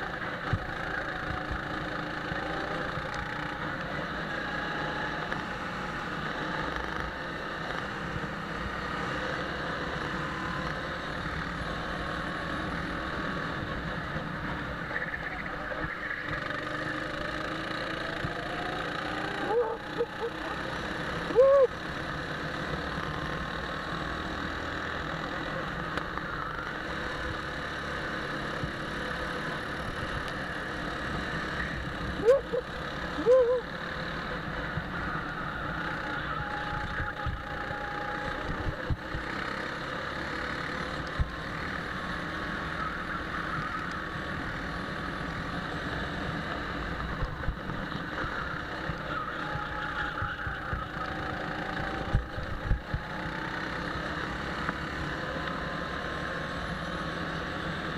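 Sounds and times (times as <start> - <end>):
go-kart engine running: 0.0 - 57.9.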